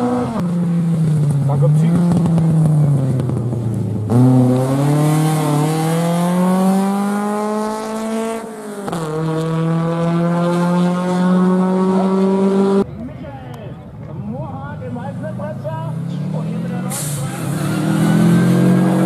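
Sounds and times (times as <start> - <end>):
rally car engine accelerating: 0.0 - 12.8, 15.9 - 19.0.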